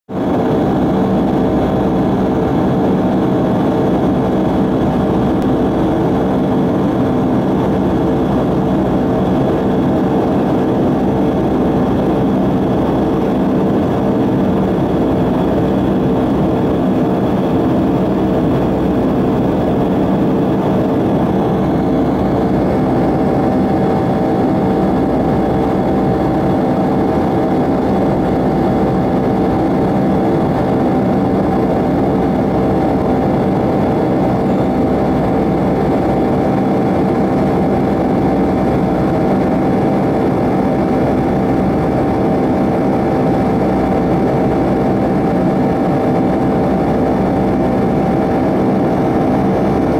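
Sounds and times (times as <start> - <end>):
jet engine drone: 0.1 - 49.9
constant hum tones: 0.2 - 49.9.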